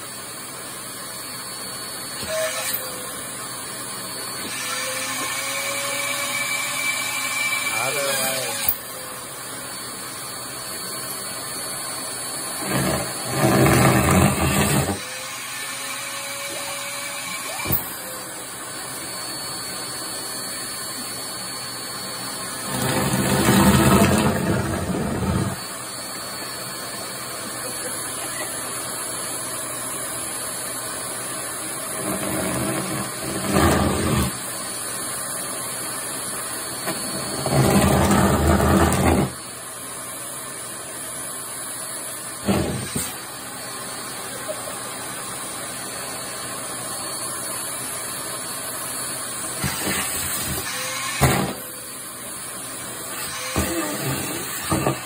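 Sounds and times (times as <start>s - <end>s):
vacuum cleaner sucking: 1.1s - 39.6s, 42.2s - 43.8s, 48.9s - 55.0s.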